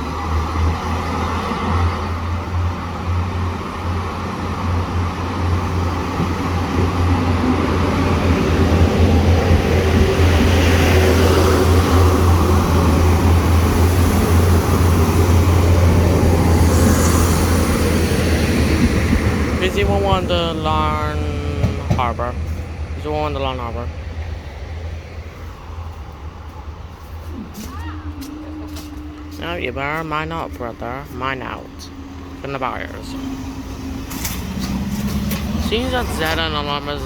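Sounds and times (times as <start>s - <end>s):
diesel train engine drone: 0.0s - 37.0s
rushing train wheel noise: 0.0s - 37.0s.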